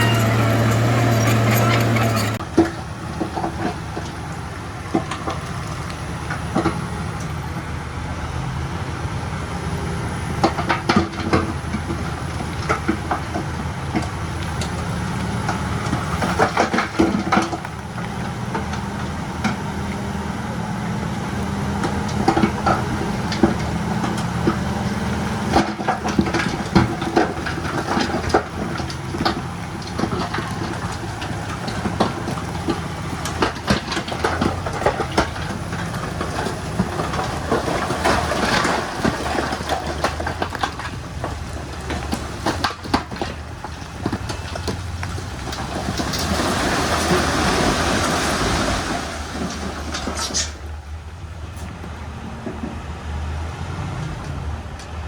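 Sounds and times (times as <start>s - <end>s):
diesel engine running: 0.0s - 55.0s
loud steady engine hum: 0.0s - 55.0s.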